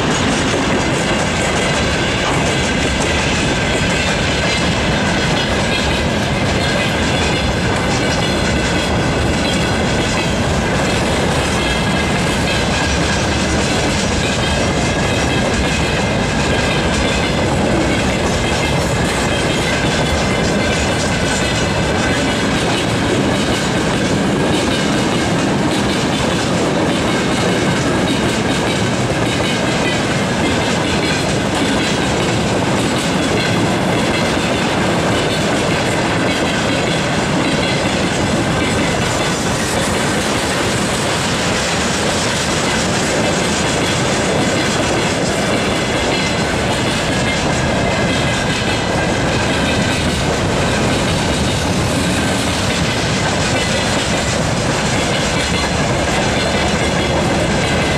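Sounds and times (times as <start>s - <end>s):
train wheels rolling on rails: 0.0s - 57.9s.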